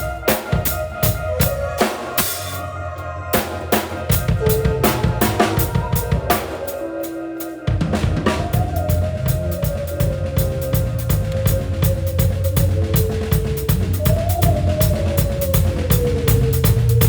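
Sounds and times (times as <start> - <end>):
drum kit beat: 0.0 - 2.6, 3.4 - 17.0
band music: 0.0 - 17.0
bass line: 0.0 - 17.0.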